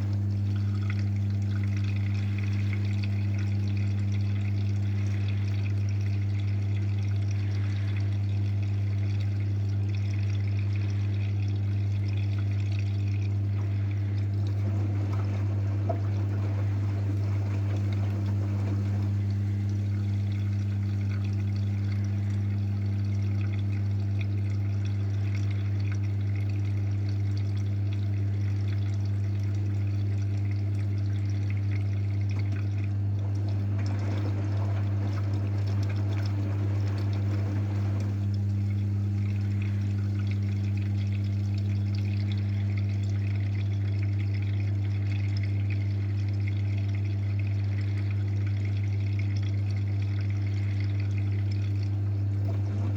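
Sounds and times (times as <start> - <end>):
drain pump hum: 0.0 - 52.9
water pouring and gurgling: 0.0 - 52.9.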